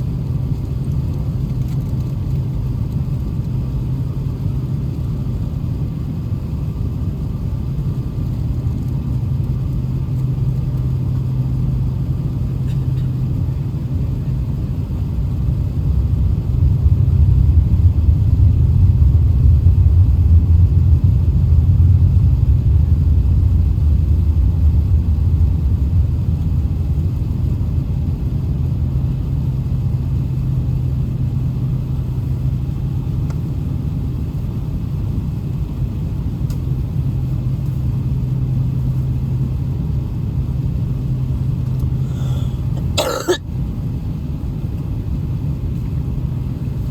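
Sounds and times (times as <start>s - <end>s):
aircraft cabin low rumble: 0.0s - 46.9s.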